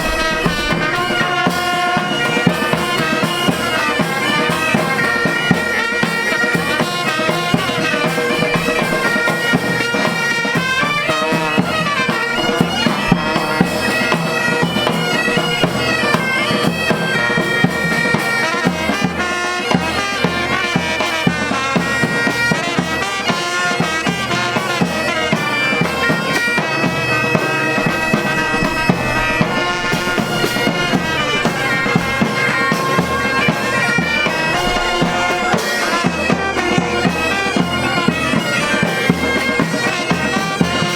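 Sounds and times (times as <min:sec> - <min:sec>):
bagpipes playing: 0:00.0 - 0:40.9
drumbeats: 0:00.0 - 0:40.9.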